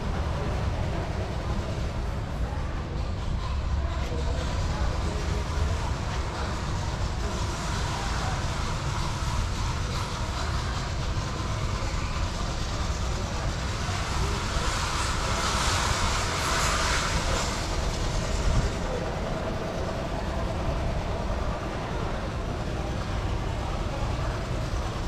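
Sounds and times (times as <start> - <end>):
vehicle traffic rumble and hiss: 0.0 - 25.0.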